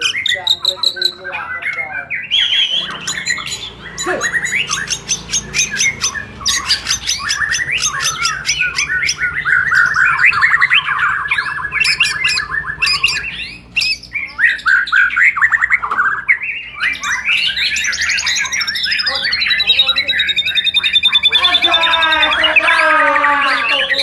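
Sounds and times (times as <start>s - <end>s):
birds singing sharp chirps: 0.0s - 24.0s
long even bird trill: 0.0s - 24.0s.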